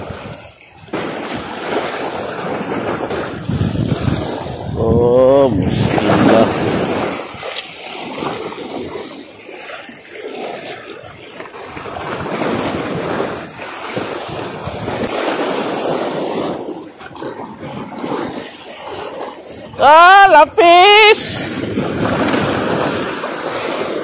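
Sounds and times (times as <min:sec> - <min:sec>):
sea water sloshing against boat: 0:00.0 - 0:24.0
wind buffeting microphone: 0:00.0 - 0:24.0.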